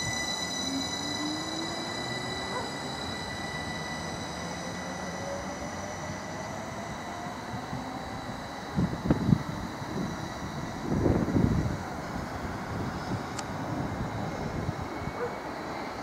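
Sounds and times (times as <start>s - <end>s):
electric train motor whine: 0.0s - 16.0s
wheels rumbling on track: 0.0s - 16.0s.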